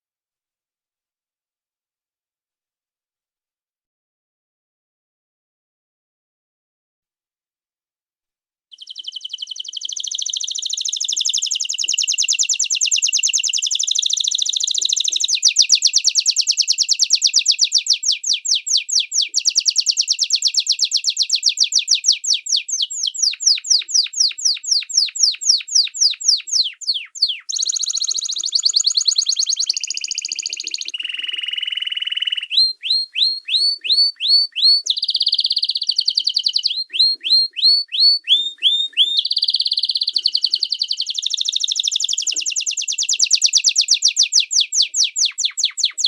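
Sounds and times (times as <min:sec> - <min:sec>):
songbird trilling: 0:08.8 - 0:46.0.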